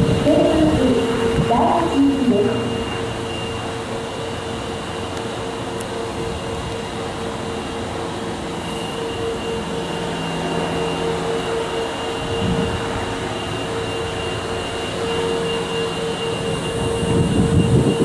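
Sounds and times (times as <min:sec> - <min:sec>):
station noise: 0:00.0 - 0:18.0
subway train equipment humming: 0:00.0 - 0:18.0.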